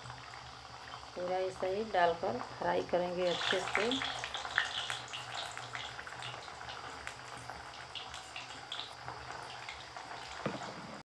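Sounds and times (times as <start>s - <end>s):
hot oil sizzling and popping: 0.0s - 11.0s.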